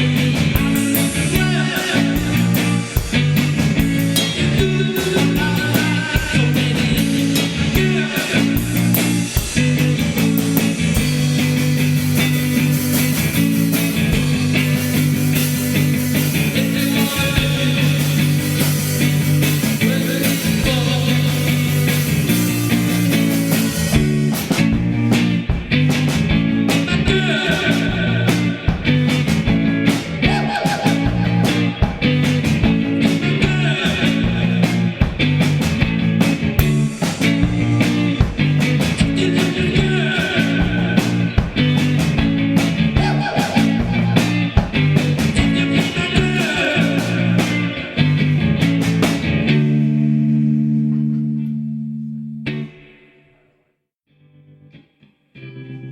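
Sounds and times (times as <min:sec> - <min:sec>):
psychedelic rock band: 0:00.0 - 0:53.4
electric guitar riff: 0:00.0 - 0:53.6, 0:54.2 - 0:55.9.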